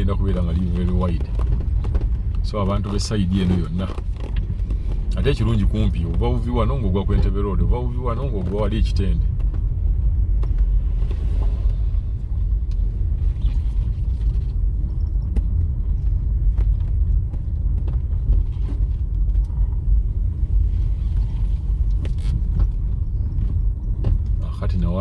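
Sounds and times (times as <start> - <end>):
knocks and rattles: 0.0 - 24.6
vehicle road rumble: 0.0 - 25.0.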